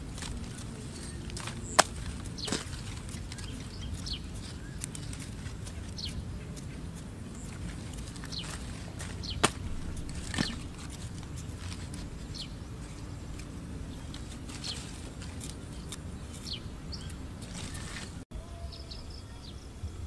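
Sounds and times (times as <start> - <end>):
bamboo sticks clicking: 0.0 - 12.3, 13.2 - 18.2
small birds chirping: 0.0 - 19.9.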